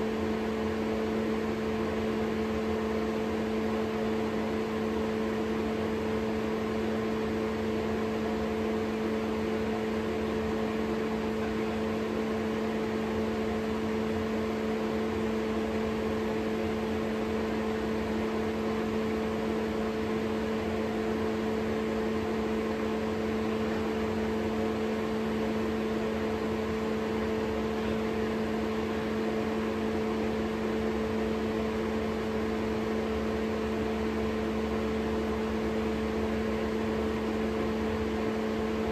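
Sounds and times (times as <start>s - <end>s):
electrical hum: 0.0s - 38.9s
fan noise: 0.0s - 38.9s.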